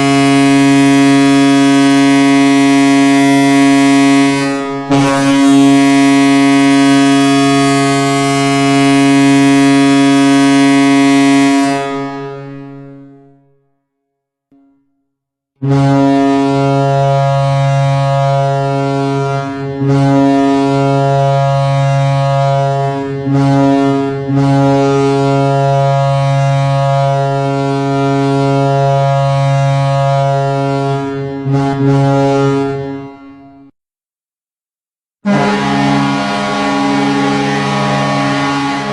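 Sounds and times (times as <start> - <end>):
deep air horn blasts: 0.0 - 13.0, 15.6 - 33.2, 35.2 - 38.9.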